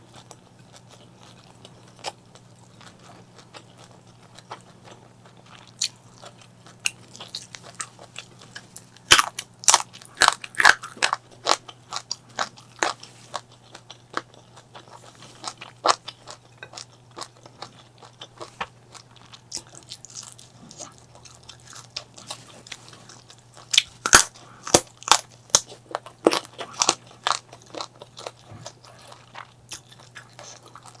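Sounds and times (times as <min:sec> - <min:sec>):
crunching bites and chewing: 0:00.1 - 0:31.0.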